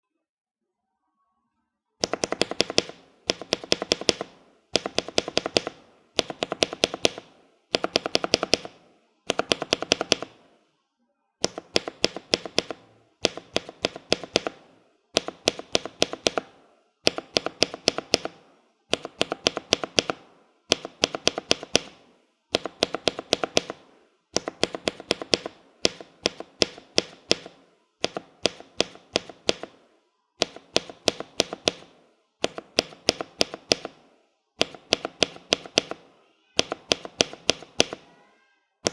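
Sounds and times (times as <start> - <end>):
keyboard spacebar presses: 2.0 - 10.4, 11.4 - 14.6, 15.2 - 22.0, 22.6 - 29.8, 30.4 - 34.0, 34.6 - 38.1.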